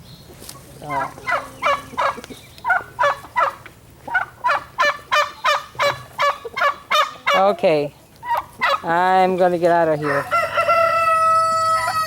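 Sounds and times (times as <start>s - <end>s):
guinea fowl calling: 0.6s - 12.0s.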